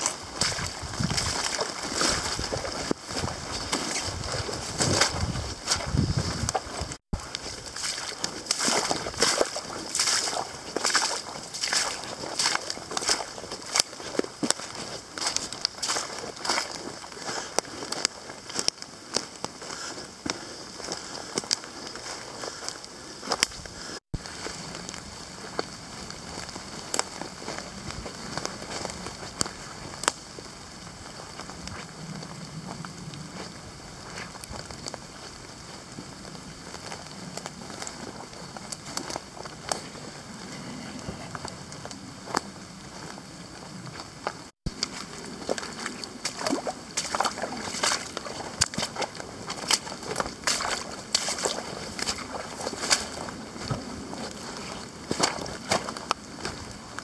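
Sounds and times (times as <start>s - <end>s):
footsteps crunching dry leaves: 0.0s - 57.0s
twigs cracking underfoot: 0.0s - 57.0s.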